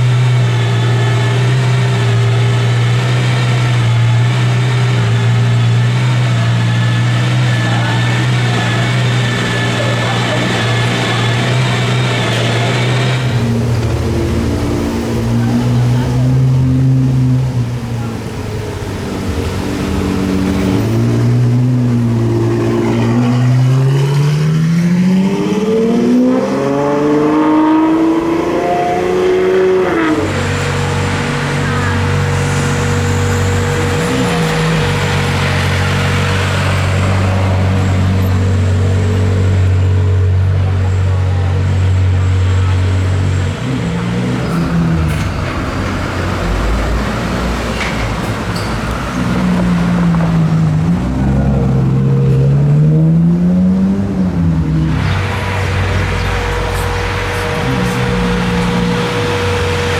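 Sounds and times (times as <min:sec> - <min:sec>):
deep steady engine note: 0:00.0 - 0:59.9
sports car engine accelerating: 0:00.0 - 0:59.9.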